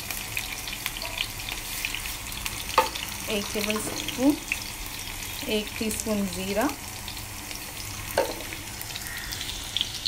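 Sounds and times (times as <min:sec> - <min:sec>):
seeds sizzling and crackling in oil: 0:00.0 - 0:10.0.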